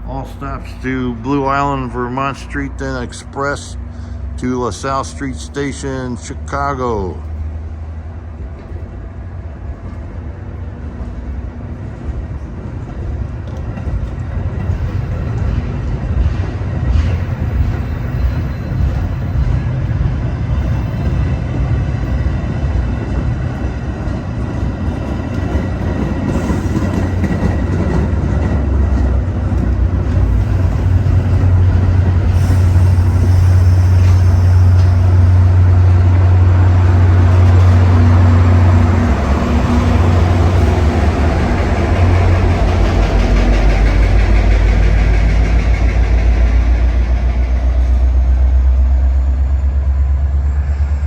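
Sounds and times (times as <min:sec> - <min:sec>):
locomotive engine drone: 0:00.0 - 0:51.0.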